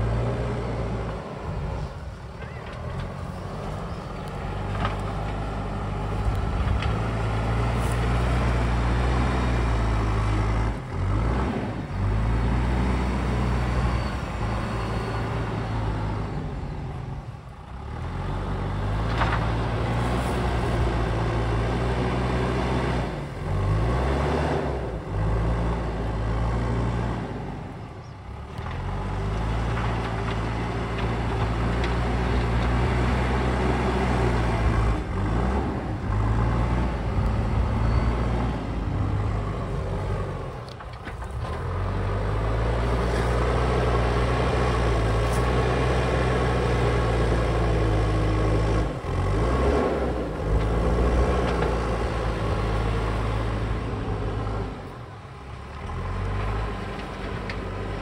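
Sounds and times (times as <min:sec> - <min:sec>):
diesel engine working hard: 0:00.0 - 0:58.0
loader bucket pushing soil: 0:00.0 - 0:58.0.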